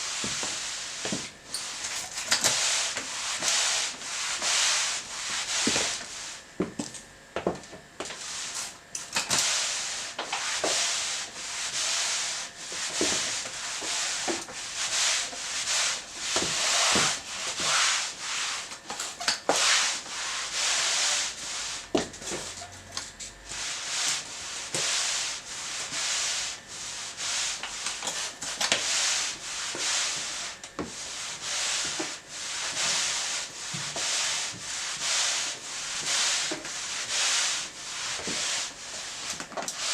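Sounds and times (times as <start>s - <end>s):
mop rubbing on hard floor: 0.0s - 6.7s, 8.0s - 39.9s.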